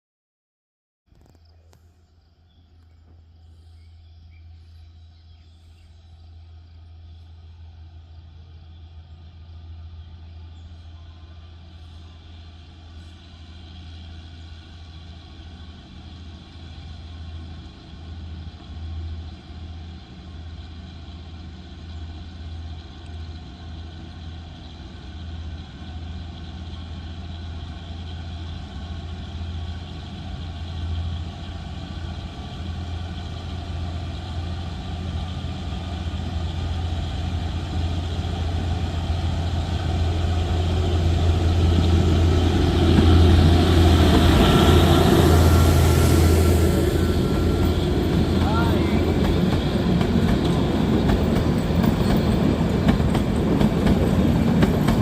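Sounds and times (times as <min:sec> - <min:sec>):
toy train diesel engine hum: 0:03.1 - 0:55.0.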